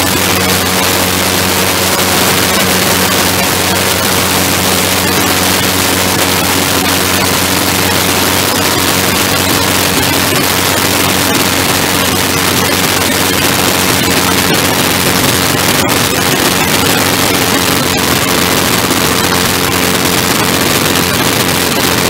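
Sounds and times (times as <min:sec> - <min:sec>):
engine and propeller droning: 0:00.0 - 0:22.0.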